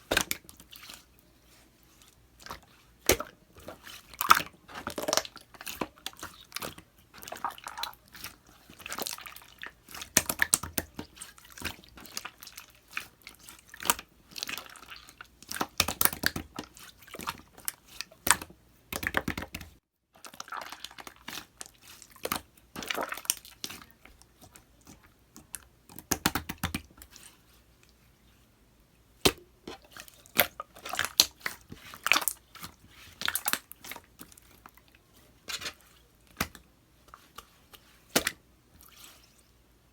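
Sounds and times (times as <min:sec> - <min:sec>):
hands squishing slime: 0:00.0 - 0:27.5, 0:29.2 - 0:39.4.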